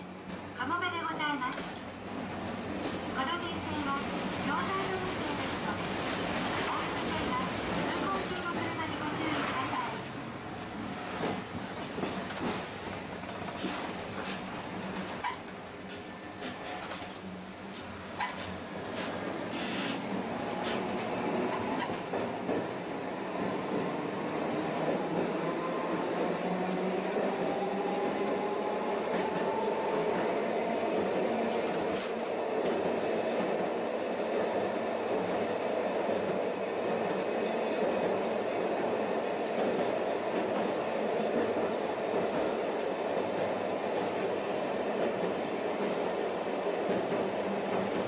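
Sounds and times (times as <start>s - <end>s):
tram wheels rumbling on rail: 0.0s - 48.0s.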